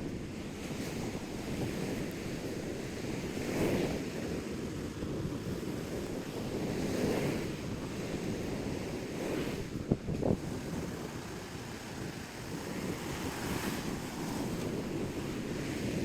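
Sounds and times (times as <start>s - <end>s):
surf washing onto beach: 0.0s - 16.0s
wind rumble on microphone: 0.0s - 16.0s.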